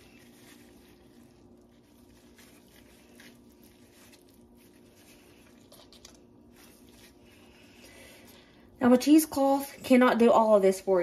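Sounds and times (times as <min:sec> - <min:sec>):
soft squishing of cheese curd: 0:00.0 - 0:09.5
steady low hum: 0:00.0 - 0:11.0.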